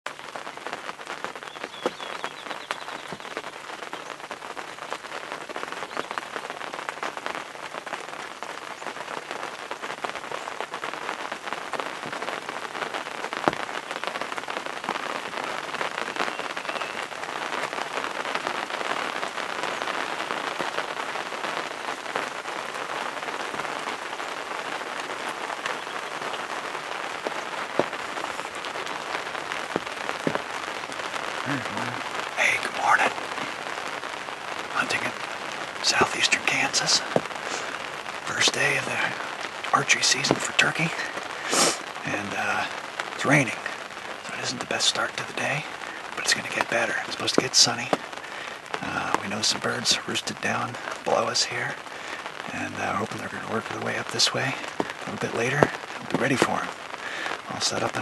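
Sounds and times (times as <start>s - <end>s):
steady rain: 0.0s - 58.0s
raindrops tapping close by: 0.1s - 58.0s.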